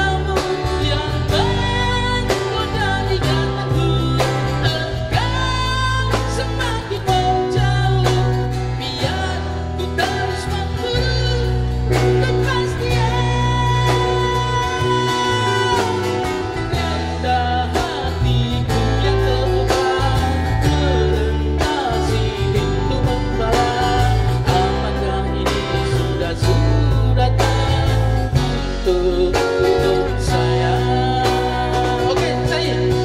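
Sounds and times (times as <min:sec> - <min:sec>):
electric guitar: 0:00.0 - 0:33.0
heavy bass line: 0:00.0 - 0:33.0
man singing amplified vocals: 0:00.0 - 0:33.0
steady drum beat: 0:00.0 - 0:33.0.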